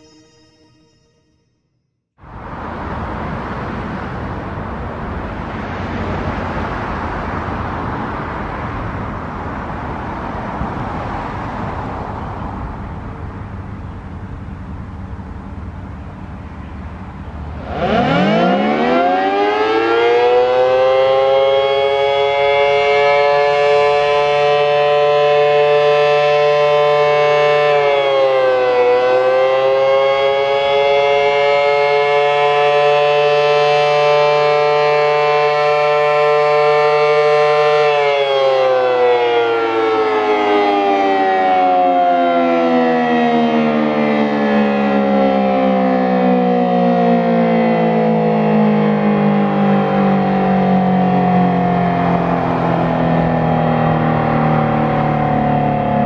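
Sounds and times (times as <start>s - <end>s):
outdoor warning sirens: 0.0s - 56.0s.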